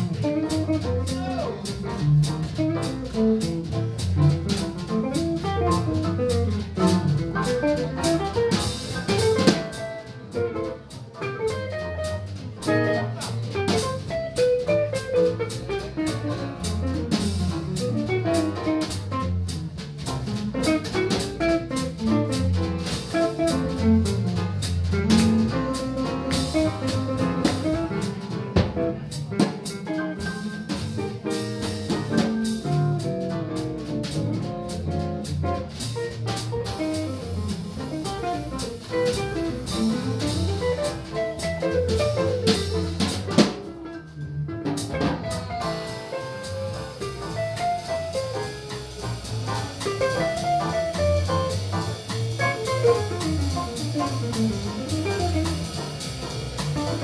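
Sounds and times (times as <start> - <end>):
drum kit: 0.0 - 57.0
piano: 0.0 - 57.0
upright bass: 0.0 - 57.0.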